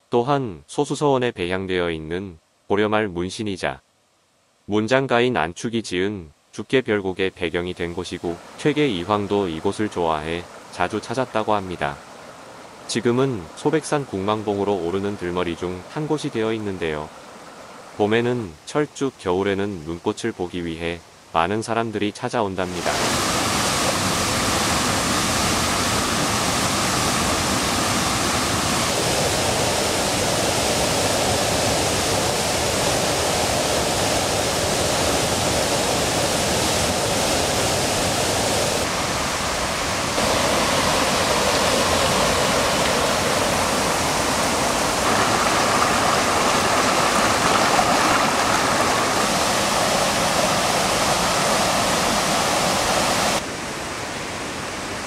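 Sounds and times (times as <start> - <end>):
stream rushing over boulders: 7.7 - 19.6, 22.5 - 55.0.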